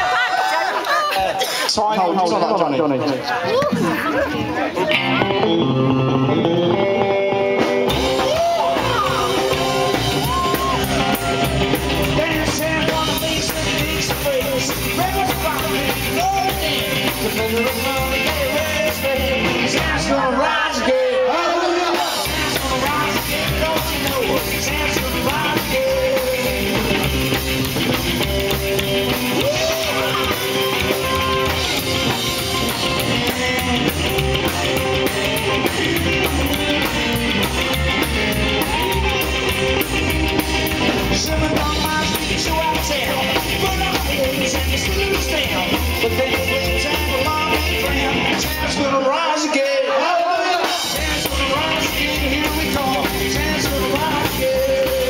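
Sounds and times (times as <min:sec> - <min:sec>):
rock and roll band playing: 0:00.0 - 0:55.0
electric guitar: 0:03.0 - 0:55.0
upright double bass: 0:03.6 - 0:20.6, 0:22.2 - 0:48.9, 0:51.0 - 0:55.0.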